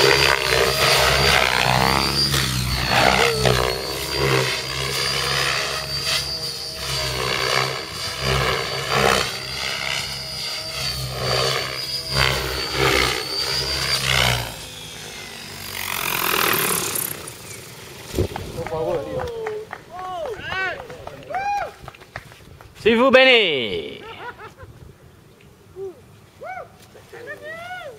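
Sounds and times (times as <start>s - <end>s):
rc helicopter rotor drone: 0.0s - 24.6s.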